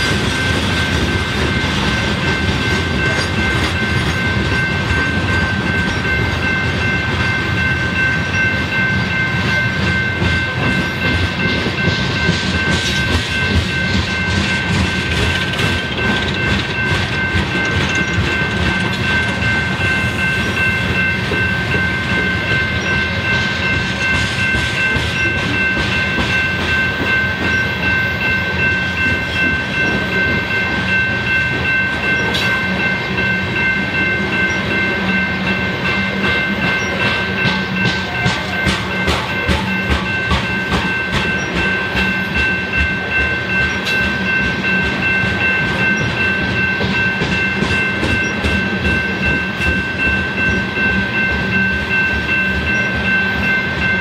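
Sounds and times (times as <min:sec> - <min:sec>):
freight train rumbling past: 0:00.0 - 0:54.0
steady high ringing tone: 0:00.0 - 0:54.0.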